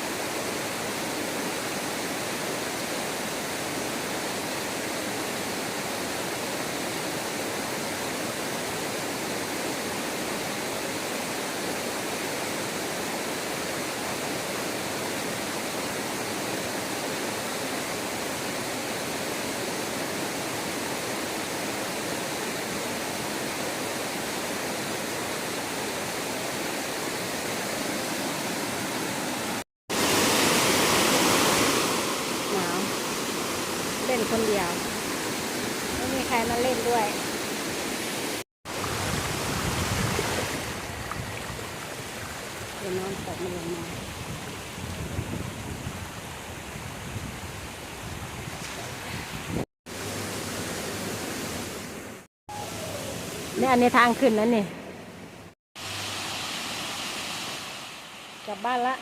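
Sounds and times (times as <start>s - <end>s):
waterfall rushing: 0.0s - 44.7s, 49.9s - 54.4s, 55.8s - 59.0s.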